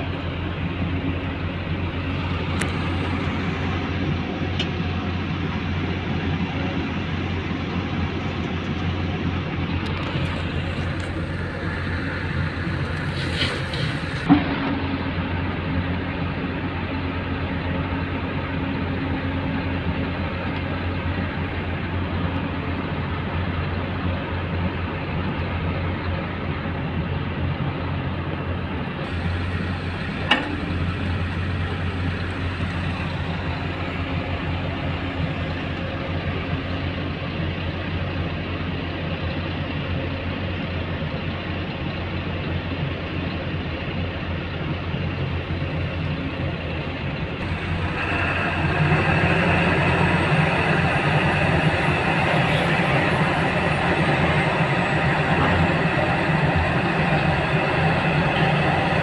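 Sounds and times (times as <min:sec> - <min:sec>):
diesel truck engine: 0:00.0 - 0:59.0.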